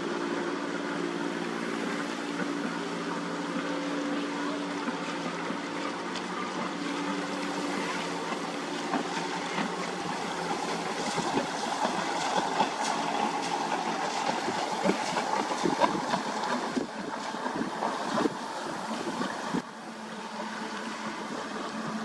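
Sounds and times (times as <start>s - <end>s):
boat engine humming: 0.0s - 22.0s
water lapping and splashing: 0.0s - 22.0s.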